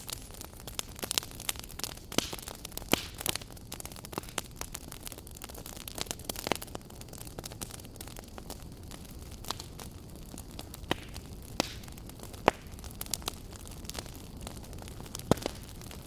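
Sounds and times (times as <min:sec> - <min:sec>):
rushing of flames: 0:00.0 - 0:16.0
wood fire crackling: 0:00.0 - 0:16.0.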